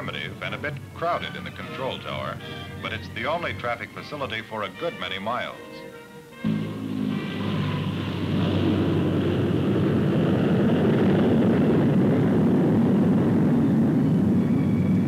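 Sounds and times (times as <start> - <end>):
turboprop engines roaring: 0.0 - 5.3, 6.4 - 15.0.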